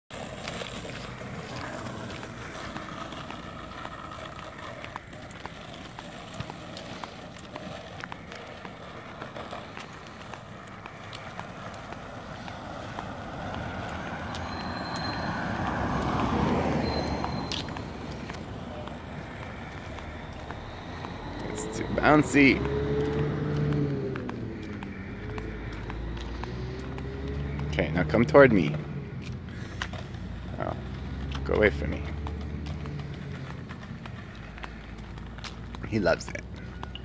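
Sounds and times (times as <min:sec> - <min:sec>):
car passing: 0:00.0 - 0:37.0
skateboard wheels rolling on asphalt: 0:00.0 - 0:37.0.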